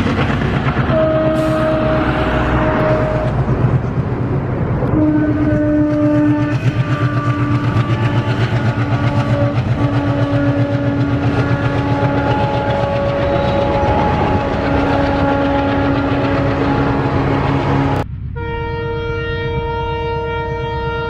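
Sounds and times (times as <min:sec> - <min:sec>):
diesel locomotive engine throb: 0:00.0 - 0:21.0.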